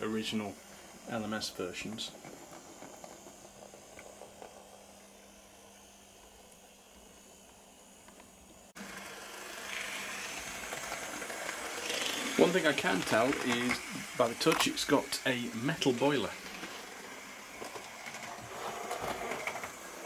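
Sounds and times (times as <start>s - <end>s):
model train running on track: 0.0s - 7.2s, 8.8s - 20.0s.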